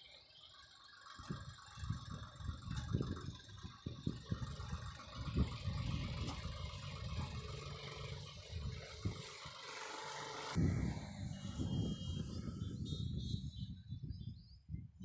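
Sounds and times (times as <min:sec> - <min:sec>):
hydraulic whine: 0:00.0 - 0:13.8
tractor diesel engine rumbling: 0:00.0 - 0:14.6.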